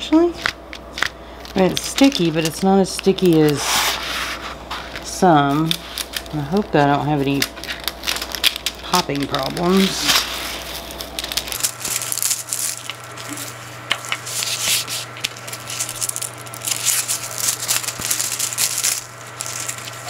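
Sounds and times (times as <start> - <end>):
hands rubbing plastic film: 0.4 - 20.0
plastic film crinkling: 0.4 - 20.0.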